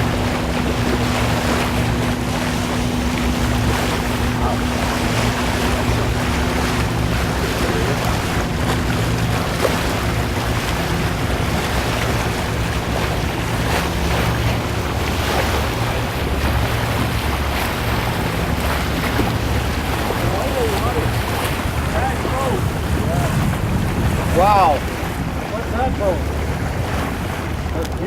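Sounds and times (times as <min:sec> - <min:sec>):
low engine hum: 0:00.0 - 0:28.0
water rushing along a hull: 0:00.0 - 0:28.0
wind buffeting the microphone: 0:00.0 - 0:28.0.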